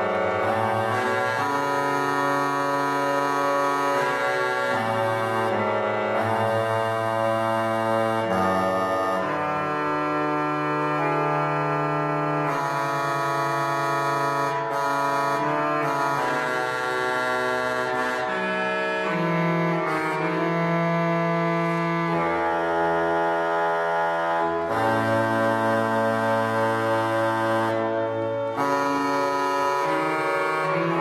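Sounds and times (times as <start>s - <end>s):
pipe organ playing: 0.0s - 31.0s.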